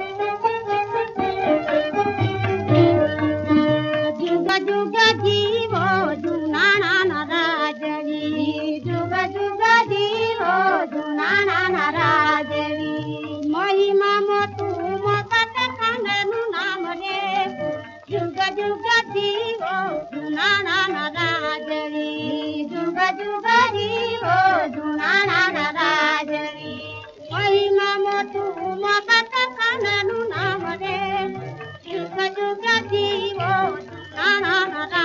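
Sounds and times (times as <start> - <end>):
high voice singing: 4.1 - 35.0.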